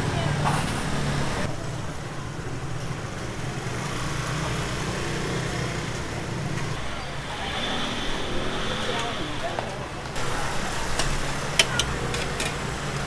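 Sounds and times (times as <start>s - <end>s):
motor scooters running: 0.0s - 13.0s.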